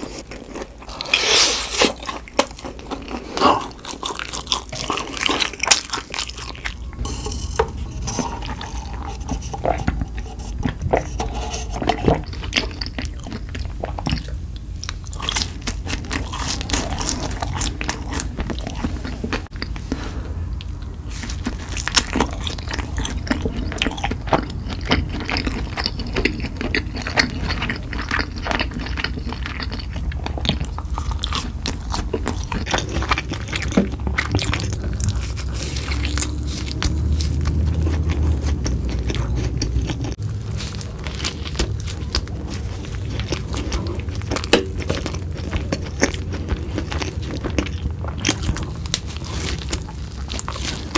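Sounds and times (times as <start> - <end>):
crunchy bites and chewing: 0.0 - 50.9
steady low hum: 4.4 - 50.9.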